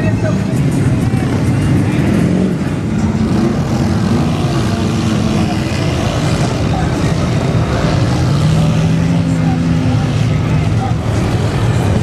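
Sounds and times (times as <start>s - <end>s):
off-road vehicle engine running hard: 0.0s - 12.0s.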